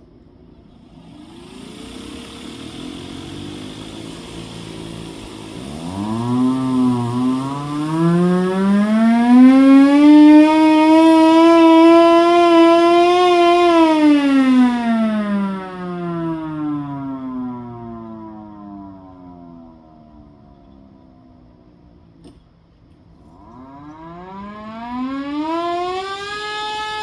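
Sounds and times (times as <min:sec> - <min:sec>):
blower humming: 0:00.0 - 0:27.0
hand-crank siren wailing: 0:00.7 - 0:21.0, 0:23.2 - 0:27.0.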